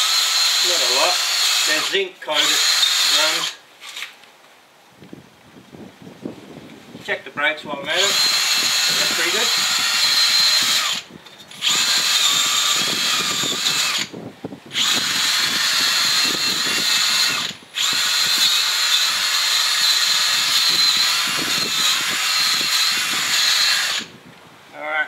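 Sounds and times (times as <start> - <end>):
cordless drill whining: 0.0 - 4.1, 7.9 - 24.2.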